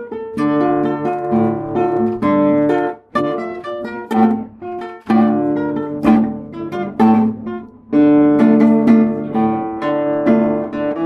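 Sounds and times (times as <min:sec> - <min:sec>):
classical guitar melody: 0:00.0 - 0:11.0.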